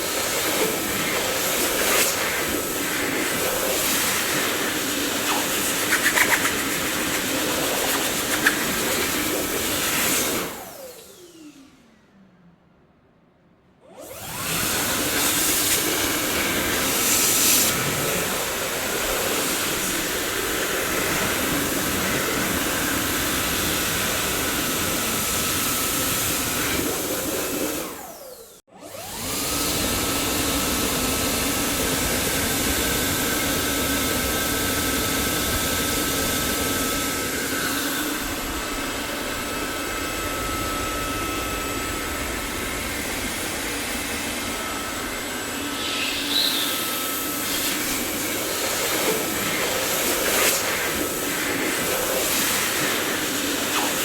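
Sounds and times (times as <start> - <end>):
vacuum cleaner running: 0.0 - 12.2, 13.8 - 54.0.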